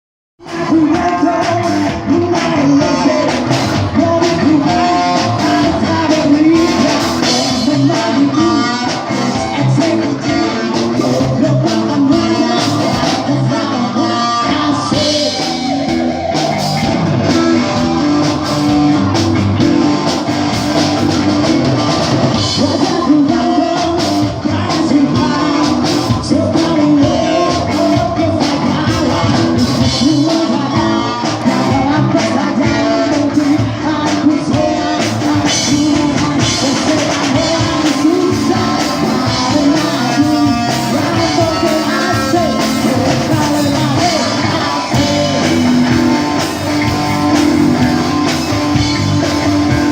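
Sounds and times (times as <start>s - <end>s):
person singing: 0.4s - 49.9s
rock band playing: 0.4s - 49.9s.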